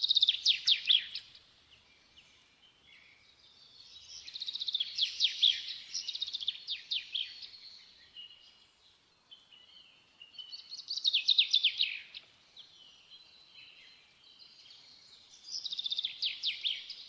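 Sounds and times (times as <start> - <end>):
songbird singing trills: 0.0 - 17.0.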